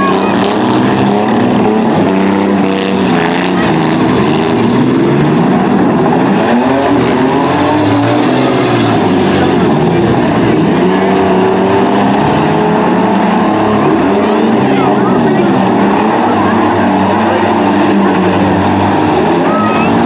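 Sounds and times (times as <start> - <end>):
truck engines revving hard: 0.0 - 20.0.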